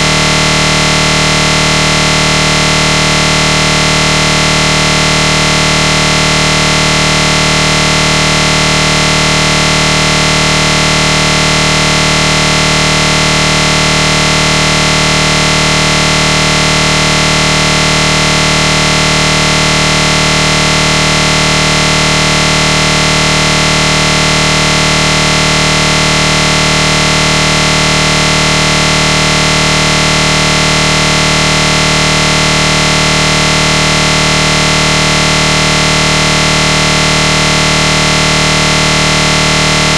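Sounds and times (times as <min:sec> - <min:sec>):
loud buzzing drone: 0:00.0 - 0:39.9.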